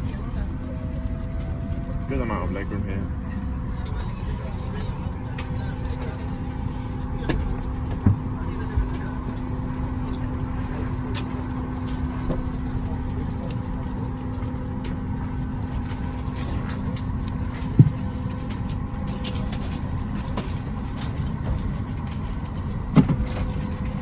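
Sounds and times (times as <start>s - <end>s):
aircraft cabin rumble and hum: 0.0s - 24.0s
low hum: 0.0s - 24.0s
ventilation running: 0.0s - 24.0s.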